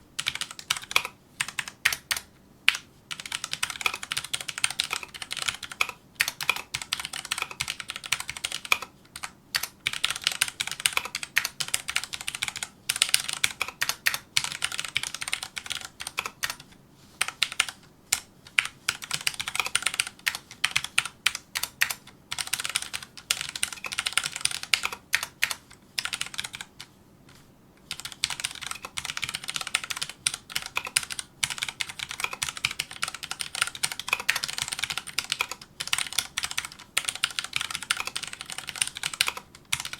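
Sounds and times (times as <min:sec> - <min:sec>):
mechanical keyboard typing: 0:00.2 - 0:26.8, 0:27.9 - 0:39.9.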